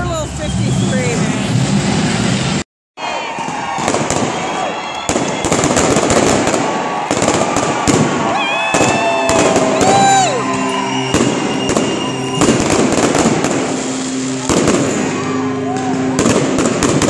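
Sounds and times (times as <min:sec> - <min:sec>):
crowd noise: 0:00.0 - 0:17.0
fireworks bursting and crackling: 0:03.2 - 0:17.0.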